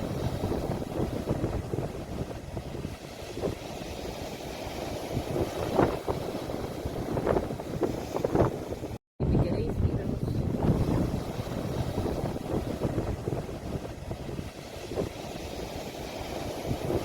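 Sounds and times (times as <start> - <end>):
sea waves washing on shore: 0.0 - 17.0
wind rumble on microphone: 0.0 - 17.0.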